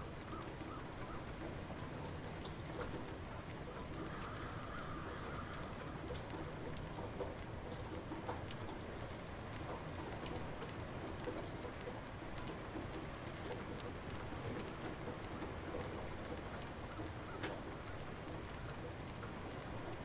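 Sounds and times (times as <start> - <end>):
raindrops ticking: 0.1 - 20.0.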